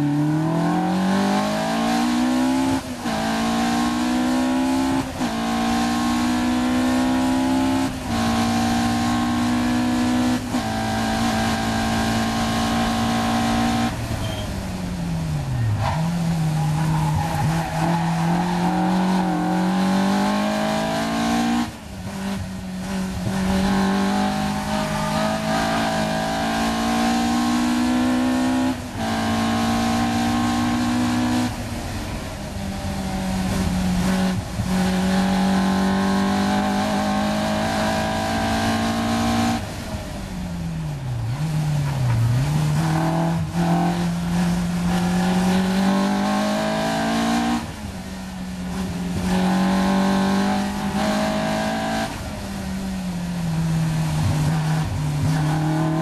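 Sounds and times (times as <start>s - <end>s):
car engine revving through gears: 0.0s - 40.2s, 40.9s - 56.0s.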